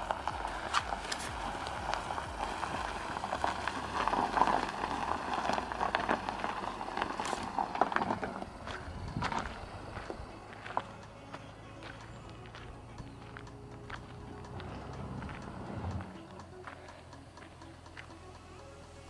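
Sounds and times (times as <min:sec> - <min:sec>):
tyres crunching over gravel: 0:00.0 - 0:18.2.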